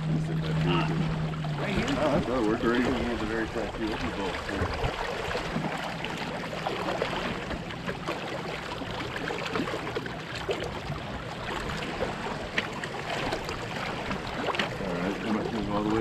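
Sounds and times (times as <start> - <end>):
water splashing along boat hull: 0.0 - 16.0.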